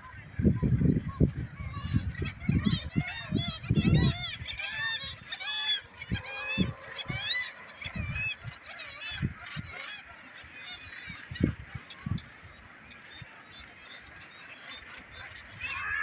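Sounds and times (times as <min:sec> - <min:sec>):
seabird colony calling: 0:00.0 - 0:16.0.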